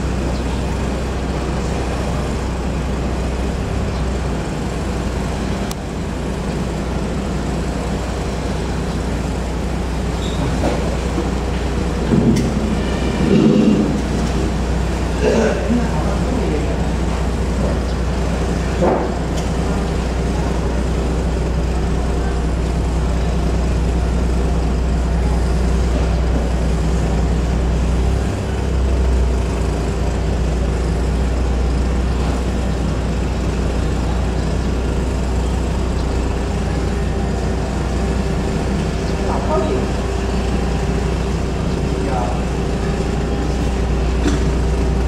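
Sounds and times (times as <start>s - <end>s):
boat engines droning: 0.0s - 45.0s.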